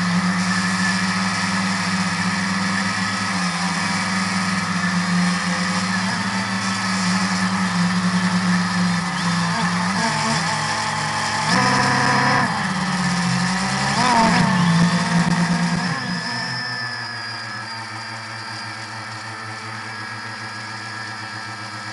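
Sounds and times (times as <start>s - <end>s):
drone propellers humming: 0.0s - 21.9s.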